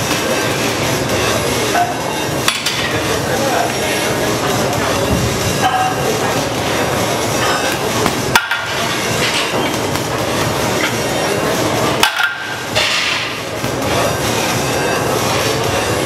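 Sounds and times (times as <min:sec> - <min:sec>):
noisy gym background: 0:00.0 - 0:16.0.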